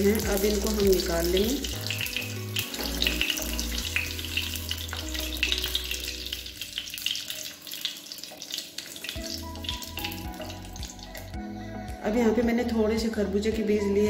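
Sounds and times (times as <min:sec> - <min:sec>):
raisins sizzling in hot fat: 0:00.0 - 0:11.4.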